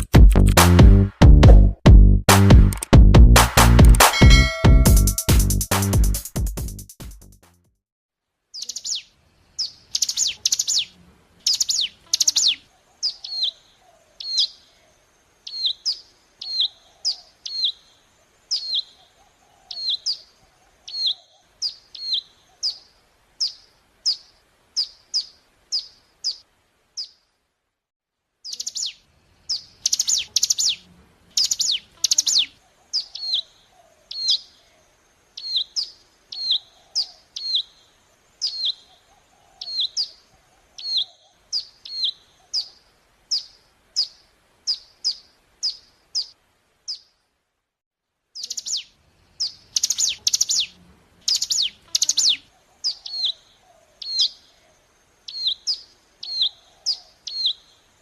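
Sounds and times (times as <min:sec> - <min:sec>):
small bird chirping: 0:08.5 - 0:27.3, 0:28.4 - 0:47.2, 0:48.3 - 0:58.0.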